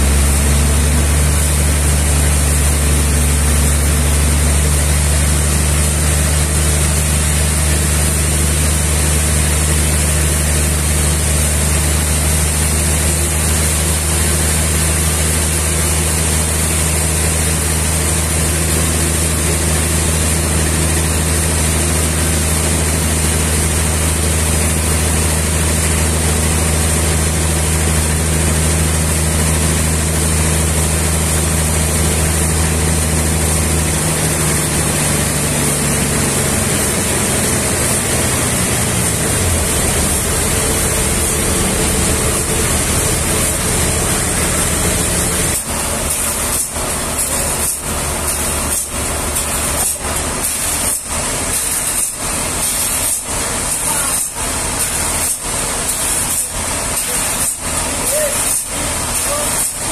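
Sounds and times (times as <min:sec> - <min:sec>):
sawmill engine humming: 0:00.0 - 0:59.9.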